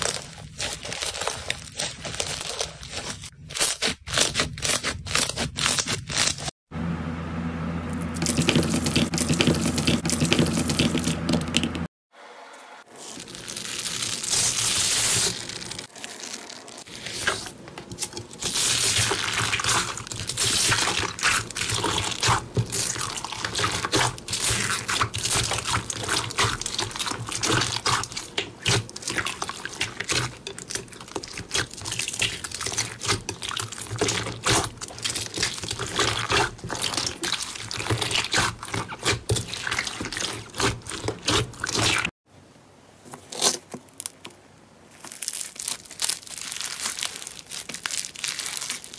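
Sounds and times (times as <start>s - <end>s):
slime squelching and crackling: 0.0s - 6.5s, 12.9s - 42.2s, 45.0s - 48.9s.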